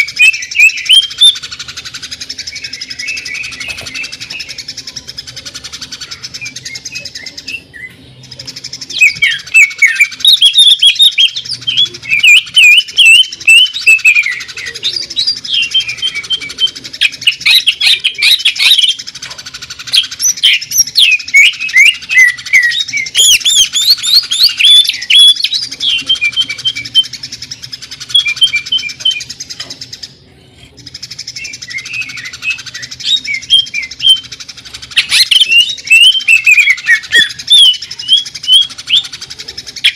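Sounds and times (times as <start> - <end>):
bird singing whistled notes: 0.0 - 19.0, 19.8 - 29.4, 31.0 - 39.2.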